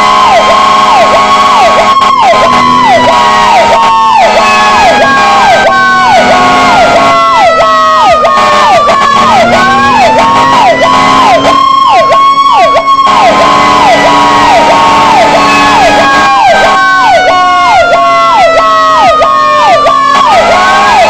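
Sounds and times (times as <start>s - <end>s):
siren fast yelp: 0.0s - 21.0s
siren wailing: 0.0s - 21.0s.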